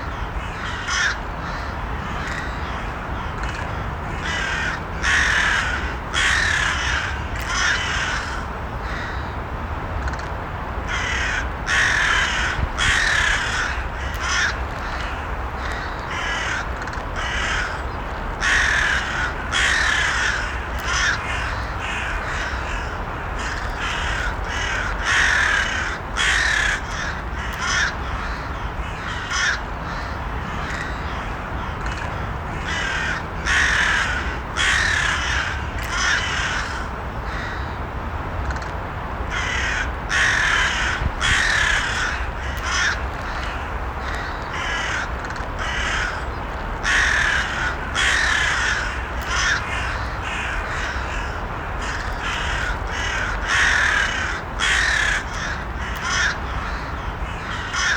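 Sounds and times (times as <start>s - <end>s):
crows cawing: 0.0s - 9.3s, 10.9s - 37.8s, 39.3s - 57.9s.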